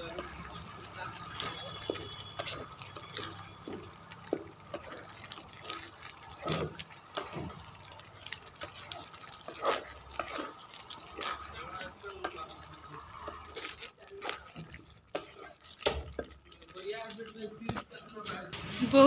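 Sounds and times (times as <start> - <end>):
small pops and drips: 0.0 - 18.5
curry bubbling in a pan: 0.0 - 18.6.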